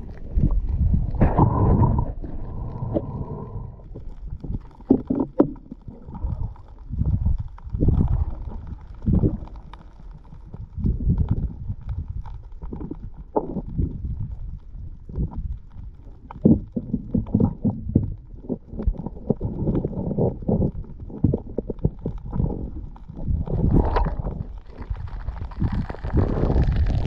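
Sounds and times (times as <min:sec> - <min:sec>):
underwater surging rumble: 0:00.0 - 0:27.0.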